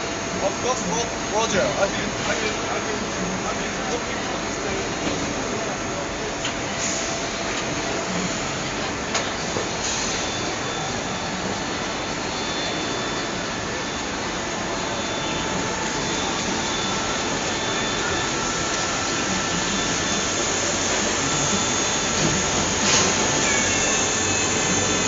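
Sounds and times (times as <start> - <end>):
faint machine whine: 0.0 - 25.0
injection moulding machines hissing: 0.0 - 25.0.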